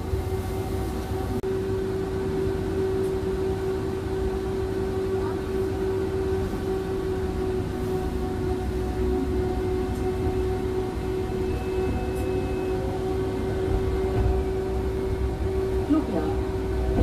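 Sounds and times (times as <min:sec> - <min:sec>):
electric tram rumbling on tracks: 0:00.0 - 0:17.0
steady humming tone: 0:01.1 - 0:17.0.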